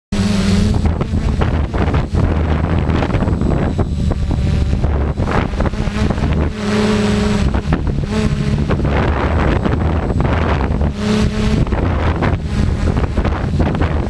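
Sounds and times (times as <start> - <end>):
pitched hum: 0.1 - 14.0
wind buffeting microphone: 0.2 - 14.0.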